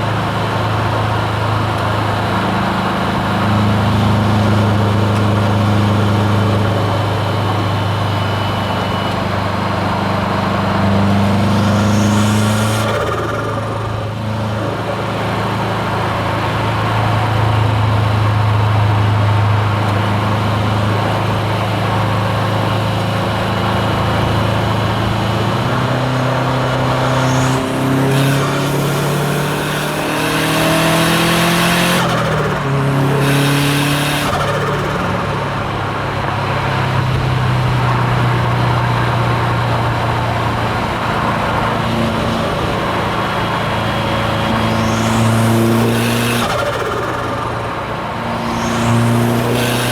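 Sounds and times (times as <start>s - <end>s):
turbocharged car engine under load: 0.0s - 49.9s.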